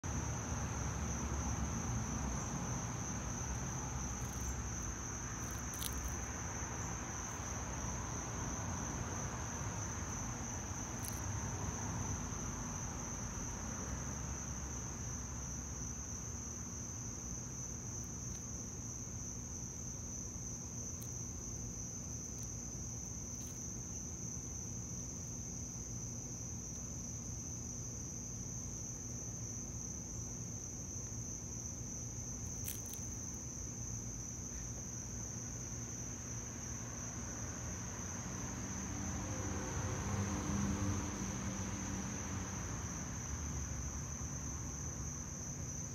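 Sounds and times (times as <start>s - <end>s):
insects singing: 0.0s - 38.8s.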